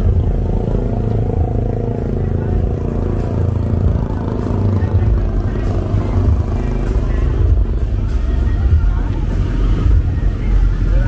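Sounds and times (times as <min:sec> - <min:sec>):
car engine running: 0:00.0 - 0:11.0
motorcycle engine running: 0:00.0 - 0:11.0.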